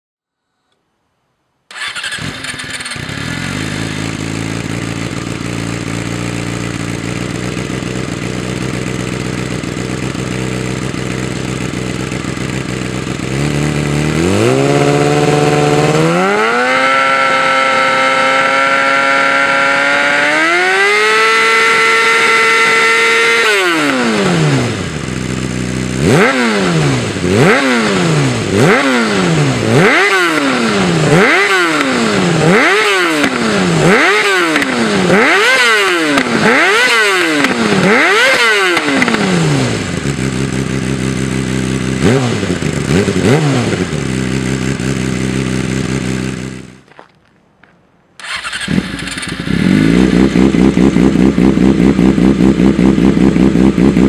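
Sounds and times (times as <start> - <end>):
motorcycle engine idling and revving: 1.7 - 47.1, 48.2 - 54.0.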